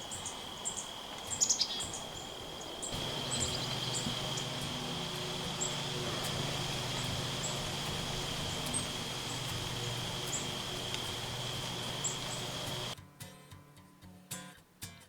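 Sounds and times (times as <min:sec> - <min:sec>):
high-pitched insect drone: 0:00.0 - 0:13.0
high bird chirps: 0:00.2 - 0:13.0.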